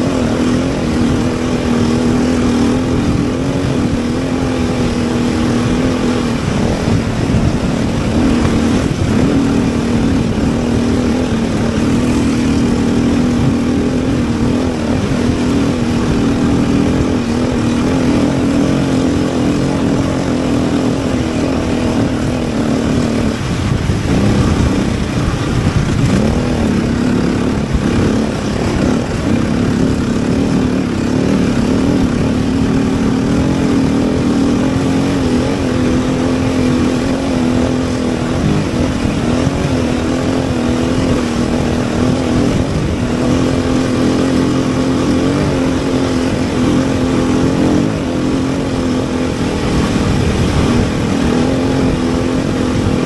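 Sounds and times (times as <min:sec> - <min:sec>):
road and wind noise: 0:00.0 - 0:53.0
vehicle engine droning: 0:00.0 - 0:53.0.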